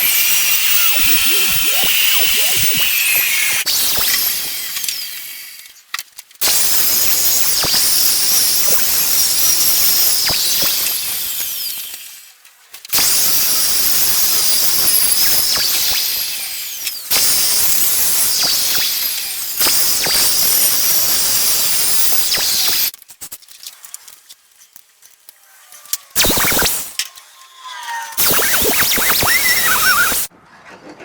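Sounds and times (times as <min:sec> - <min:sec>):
high-pitched power tool whine: 0:00.0 - 0:05.8, 0:06.4 - 0:12.3, 0:13.0 - 0:22.9, 0:26.1 - 0:30.3.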